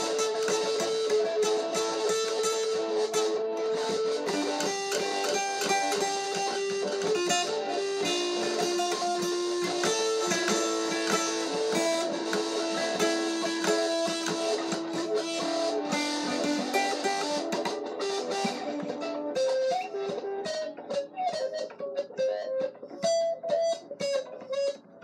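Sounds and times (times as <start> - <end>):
acoustic guitar playing: 0.0 - 25.0.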